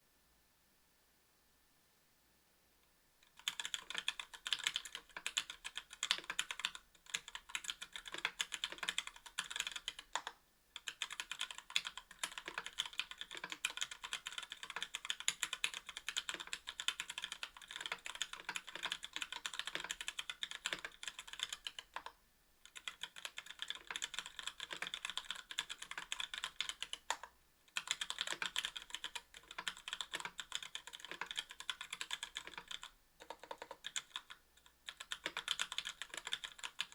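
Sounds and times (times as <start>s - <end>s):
fast mechanical keyboard typing: 3.3s - 36.9s.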